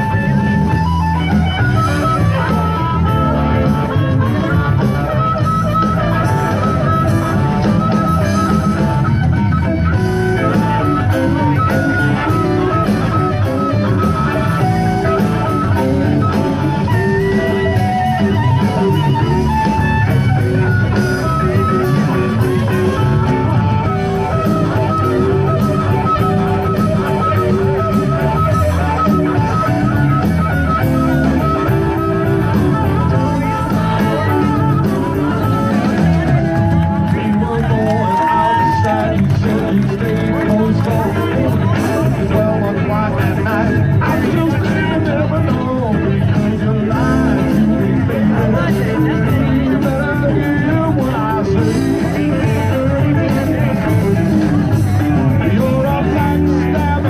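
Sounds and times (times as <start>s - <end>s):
guitar-led rock music: 0.0s - 57.0s.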